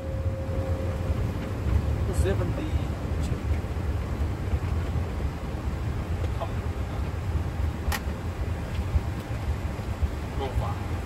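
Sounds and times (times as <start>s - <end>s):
aircraft cockpit rumble on runway: 0.0s - 11.0s.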